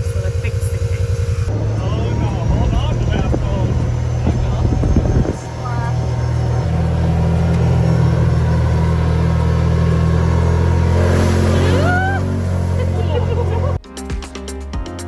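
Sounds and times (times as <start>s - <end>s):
vehicle engine running: 0.0s - 13.8s
short rising tone: 0.9s - 13.8s.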